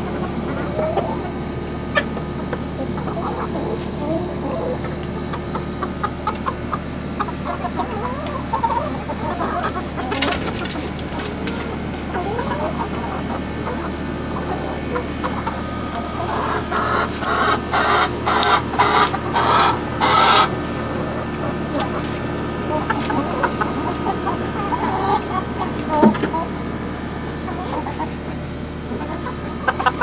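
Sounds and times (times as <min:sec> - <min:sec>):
chickens clucking: 0:00.0 - 0:30.0
chickens squawking: 0:00.0 - 0:30.0.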